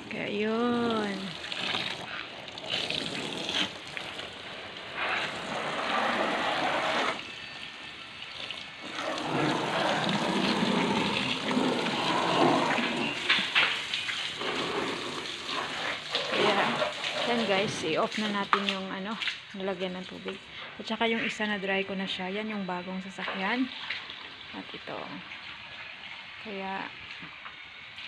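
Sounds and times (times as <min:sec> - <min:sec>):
hose water spraying on car: 0:00.0 - 0:28.0.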